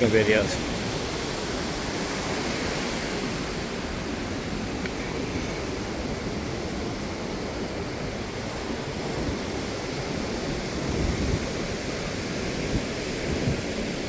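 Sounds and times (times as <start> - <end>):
ocean surf washing on beach: 0.0 - 14.0
wind rumbling on microphone: 0.0 - 14.0.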